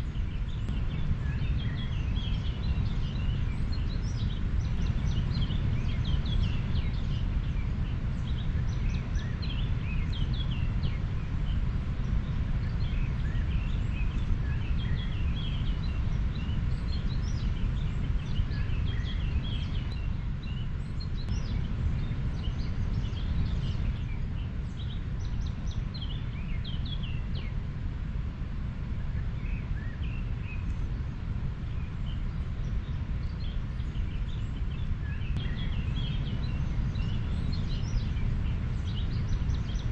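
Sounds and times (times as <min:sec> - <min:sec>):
small birds chirping: 0:00.0 - 0:27.7, 0:29.0 - 0:39.9.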